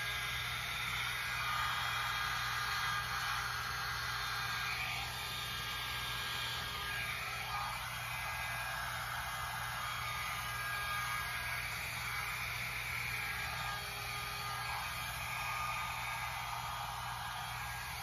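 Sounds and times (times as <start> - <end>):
hot air brush running: 0.0 - 18.0.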